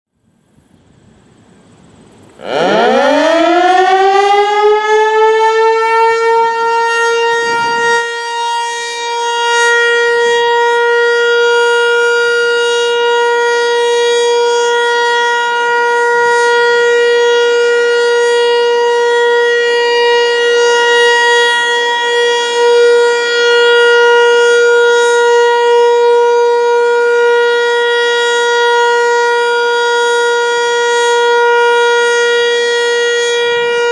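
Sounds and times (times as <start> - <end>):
warning siren wailing: 2.3 - 33.9.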